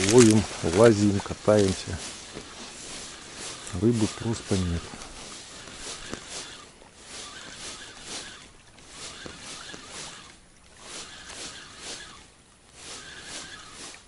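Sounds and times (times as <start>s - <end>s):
waves lapping against boat hull: 0.0s - 14.0s.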